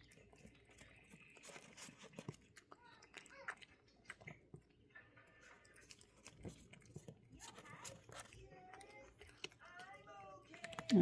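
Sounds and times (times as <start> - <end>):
cat chewing: 0.0 - 11.0.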